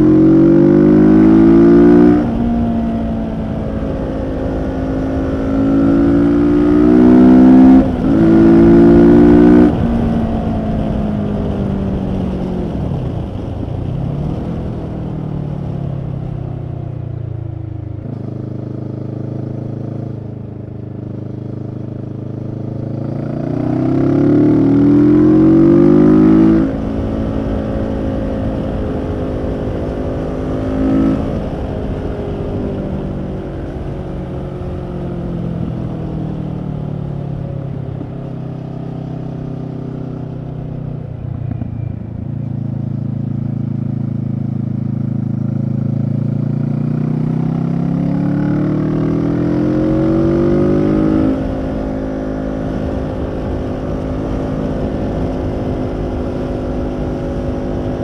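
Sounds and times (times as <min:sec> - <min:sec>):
motorcycle engine revving: 0:00.0 - 0:15.8, 0:17.7 - 0:58.0.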